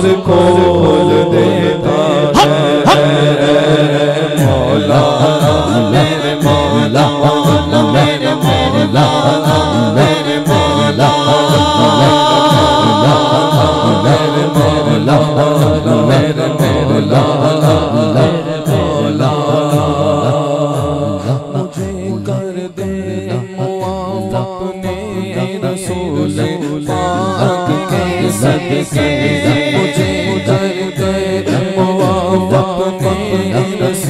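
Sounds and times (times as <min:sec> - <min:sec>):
man singing devotional song: 0:00.0 - 0:34.0.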